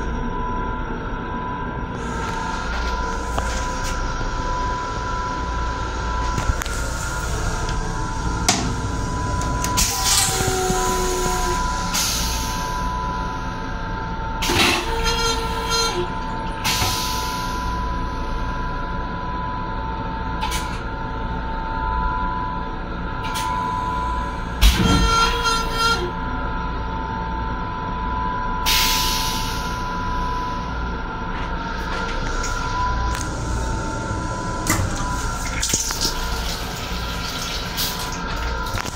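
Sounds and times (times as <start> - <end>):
railcar hum and rumble: 0.0 - 38.9.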